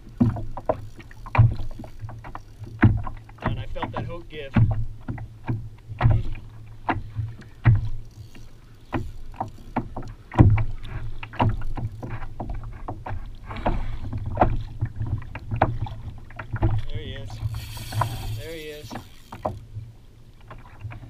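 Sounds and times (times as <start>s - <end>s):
low rumble of sea: 0.0s - 21.0s
water knocking against kayak hull: 0.0s - 21.0s.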